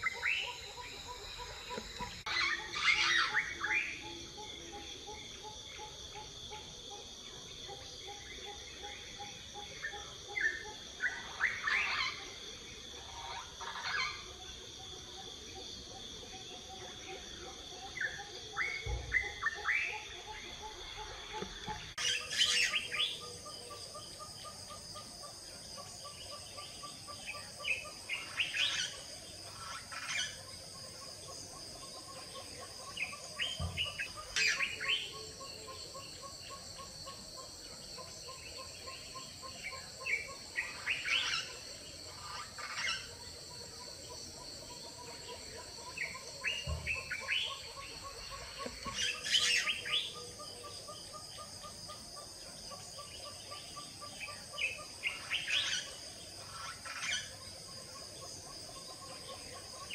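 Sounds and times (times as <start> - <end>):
birds calling: 0.0 - 6.7, 8.2 - 12.4, 13.0 - 14.4, 17.8 - 59.9
high-pitched insect chorus: 0.0 - 59.9.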